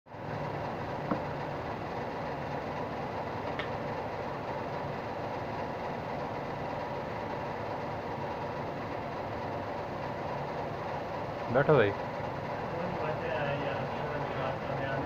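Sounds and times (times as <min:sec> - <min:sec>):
mechanical hum and rumble: 0:00.1 - 0:15.0.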